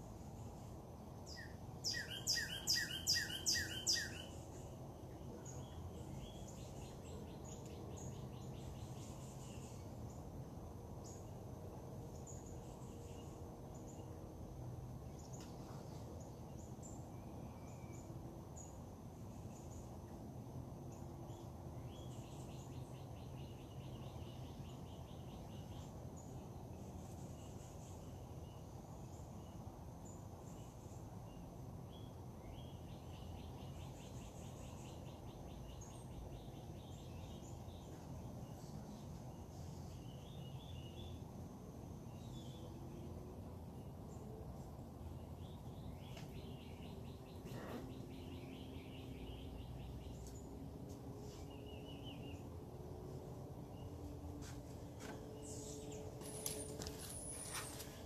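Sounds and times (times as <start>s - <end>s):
low background noise: 0.0s - 58.0s.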